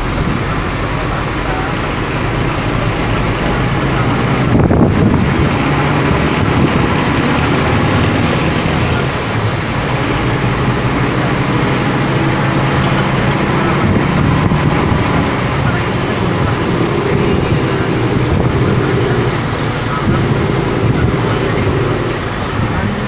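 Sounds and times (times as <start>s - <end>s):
diesel engine running: 0.0s - 23.0s
tyre and road noise: 0.0s - 23.0s.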